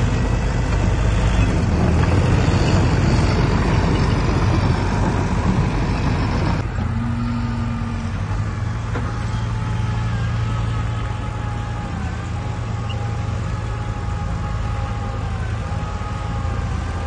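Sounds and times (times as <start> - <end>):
diesel machinery working under load: 0.0 - 17.0
faint engine whine: 0.0 - 17.0.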